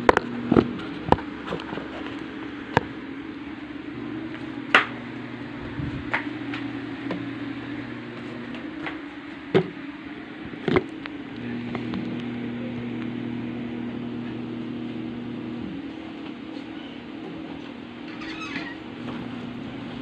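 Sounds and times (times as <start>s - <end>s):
mechanical motor hum: 0.0s - 20.0s.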